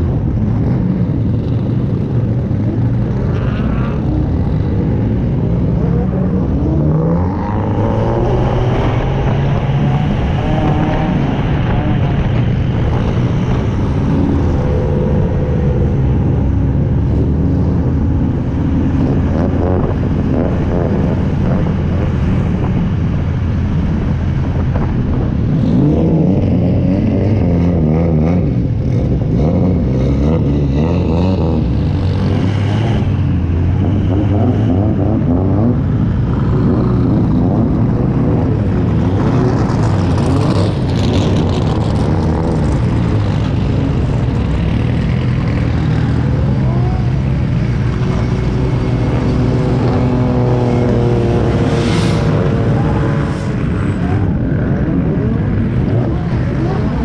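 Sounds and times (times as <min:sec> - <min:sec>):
car engine revving: 0:00.0 - 0:57.0
other car engines: 0:00.0 - 0:57.0.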